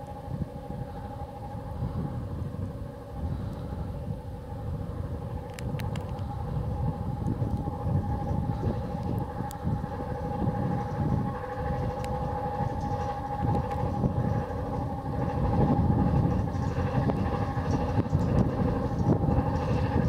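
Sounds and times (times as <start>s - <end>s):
electric train motor whine: 0.0s - 20.0s
train wheels rumbling: 0.0s - 20.0s.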